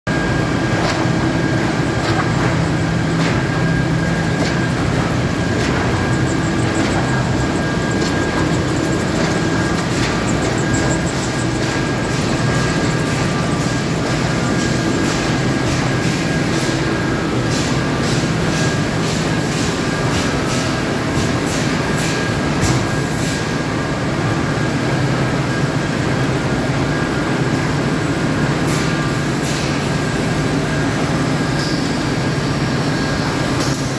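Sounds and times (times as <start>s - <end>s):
machinery hum with high whine: 0.1s - 33.9s.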